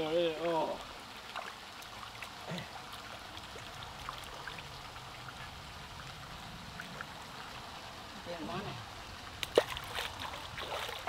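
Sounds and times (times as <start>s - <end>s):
water drips: 0.0s - 8.2s, 8.8s - 11.0s
water trickling and lapping: 0.0s - 11.0s.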